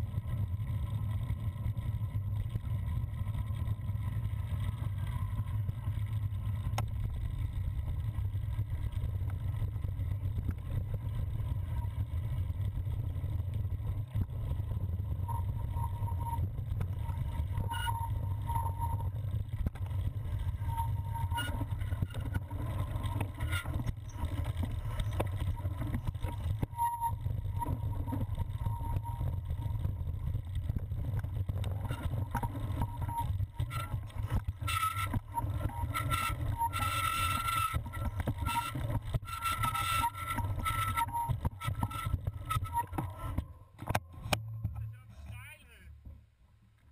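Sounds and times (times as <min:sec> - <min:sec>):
bike rattling on dirt trail: 0:00.0 - 0:43.8
wind rumble: 0:00.0 - 0:45.1.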